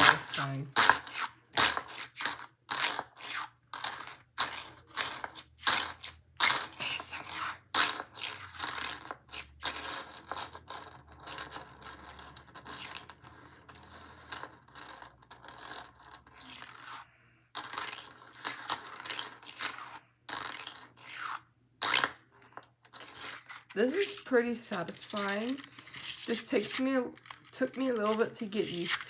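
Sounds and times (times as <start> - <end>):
plastic fidget toy rattling: 0.0 - 13.3, 17.6 - 29.0.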